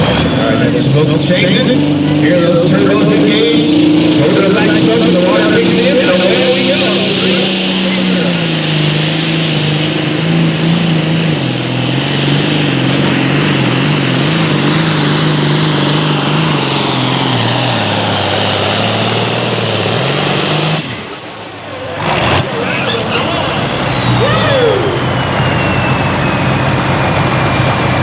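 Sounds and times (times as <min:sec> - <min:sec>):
diesel tractor engine under load: 0:00.0 - 0:28.0
turbo whine: 0:00.0 - 0:28.0.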